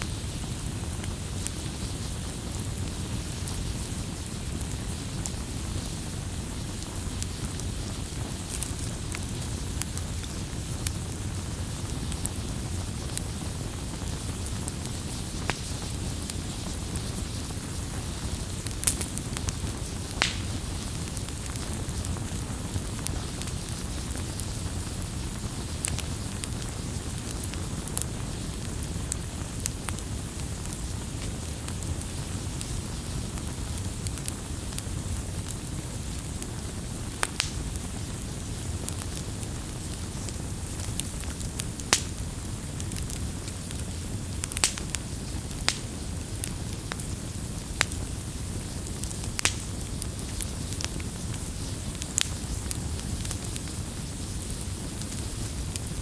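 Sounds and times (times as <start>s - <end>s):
low rumble of flames: 0.0s - 56.0s
wood crackles and pops: 0.0s - 56.0s.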